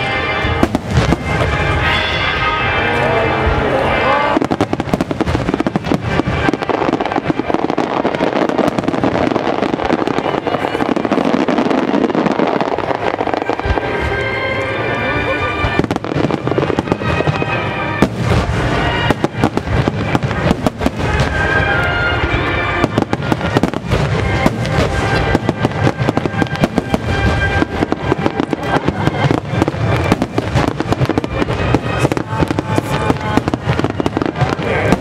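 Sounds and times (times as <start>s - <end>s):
firework bangs and crackles: 0.0s - 35.0s
music playing: 0.0s - 35.0s.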